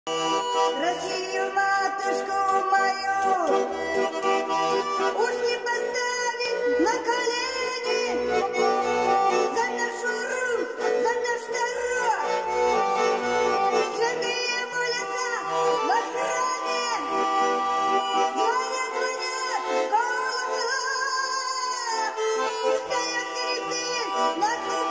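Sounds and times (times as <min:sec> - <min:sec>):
button accordion playing: 0:00.1 - 0:24.9
woman singing: 0:00.7 - 0:03.6, 0:05.1 - 0:12.3, 0:13.8 - 0:17.2, 0:18.2 - 0:24.9.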